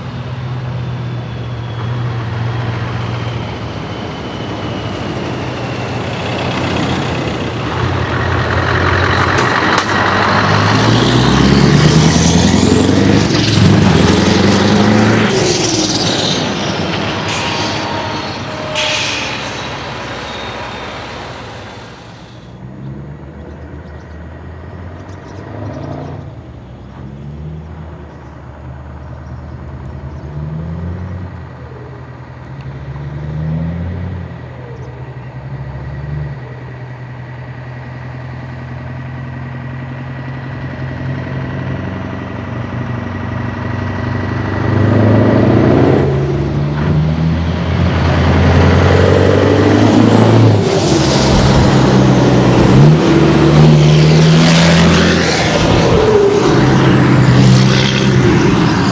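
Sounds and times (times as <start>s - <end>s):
truck engine revving: 0.0s - 28.0s, 35.3s - 58.9s
truck passing by: 0.0s - 58.9s.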